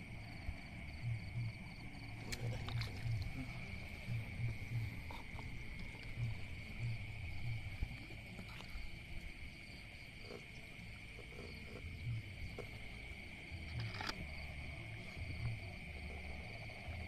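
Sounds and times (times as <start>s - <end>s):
crickets trilling: 0.0s - 17.0s
soft low pulses: 0.0s - 17.0s.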